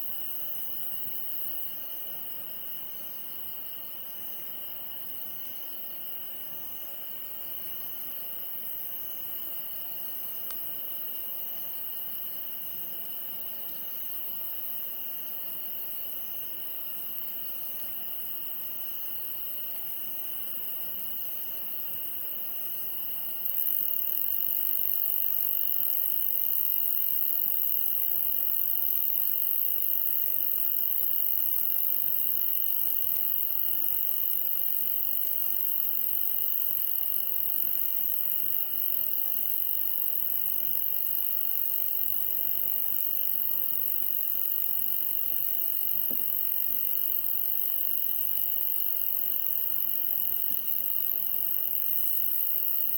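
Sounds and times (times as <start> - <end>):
insects trilling: 0.0 - 52.9
short pulsed insect call: 0.0 - 52.9.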